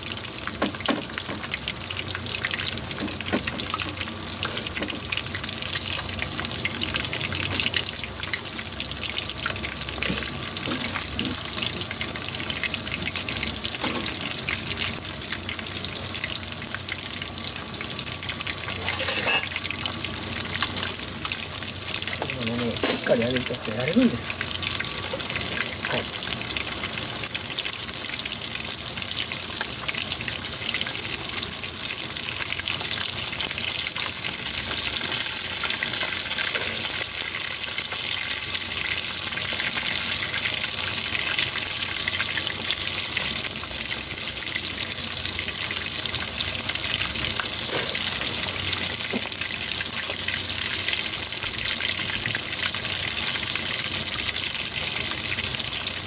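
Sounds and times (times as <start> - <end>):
fish deep-frying in hot oil: 0.0 - 56.0.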